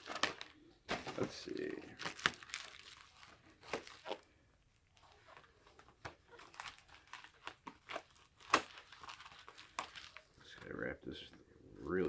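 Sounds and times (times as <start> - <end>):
packaging crinkling and tearing: 0.0 - 10.8.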